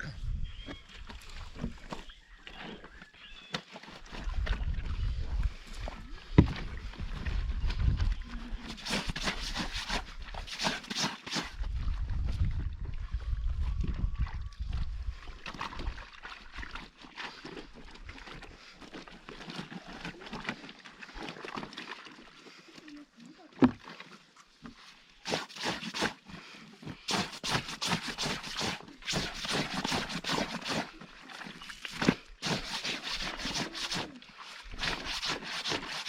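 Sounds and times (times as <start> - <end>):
water sloshing and splashing: 0.7 - 36.0.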